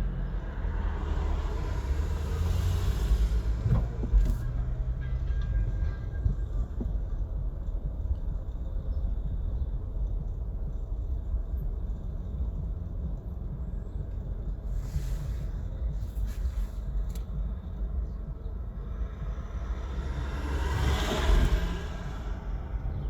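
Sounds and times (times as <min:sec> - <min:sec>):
road and wind noise inside car: 0:00.0 - 0:23.0.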